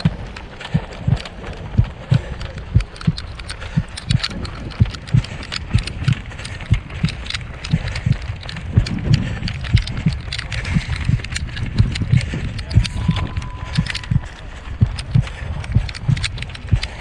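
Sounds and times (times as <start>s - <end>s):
running footfalls on asphalt: 0.0s - 17.0s
wind and movement rustle: 0.0s - 17.0s.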